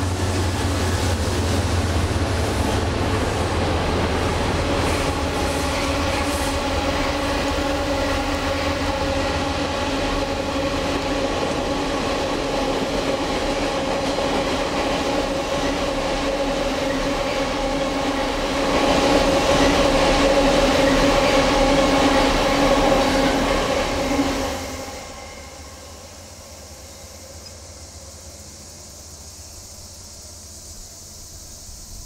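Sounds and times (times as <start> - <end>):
passenger train rumbling past: 0.0 - 32.0.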